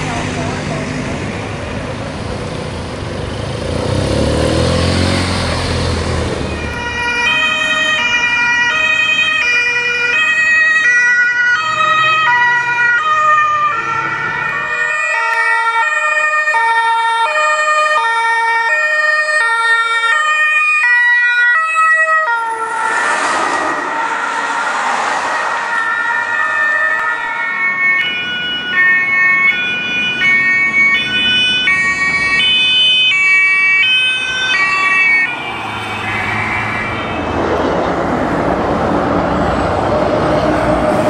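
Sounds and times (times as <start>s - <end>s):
vehicle passing with rumbling engine: 0.0s - 15.1s, 21.7s - 41.0s
traffic noise: 0.0s - 41.0s
two-tone police sirens: 5.3s - 41.0s.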